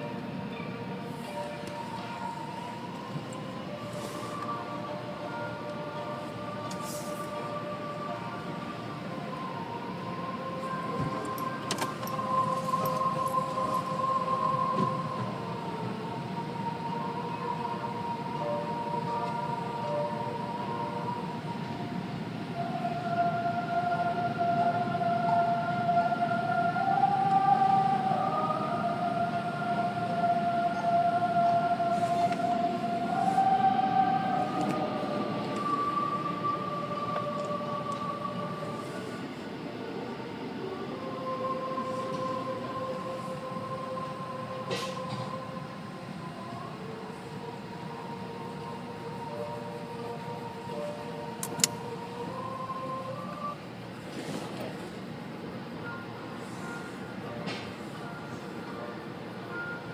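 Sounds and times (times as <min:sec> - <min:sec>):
car wash machinery whine: 0:00.0 - 0:59.9
rumbling hiss: 0:00.0 - 0:59.9.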